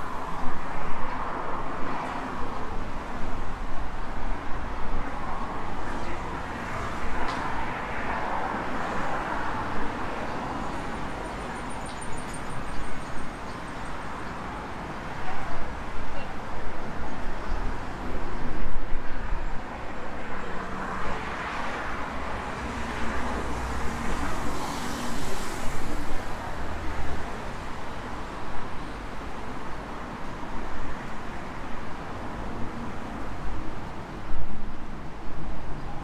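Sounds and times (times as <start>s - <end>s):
road traffic rushing by: 0.0s - 36.0s.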